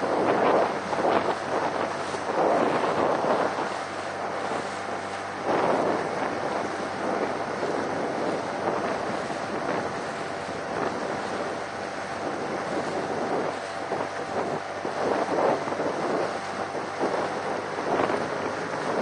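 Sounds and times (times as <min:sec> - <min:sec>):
faint motor hum: 0:00.0 - 0:19.0
water slapping against boat: 0:00.0 - 0:19.0
wind buffeting microphone: 0:00.0 - 0:19.0.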